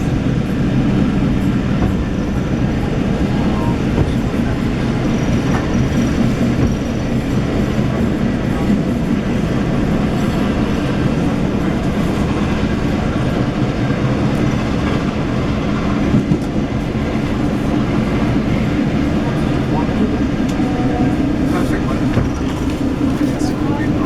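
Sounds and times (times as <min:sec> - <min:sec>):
clickety-clack of rails: 0:00.0 - 0:24.0
train wheels rumbling on rails: 0:00.0 - 0:24.0.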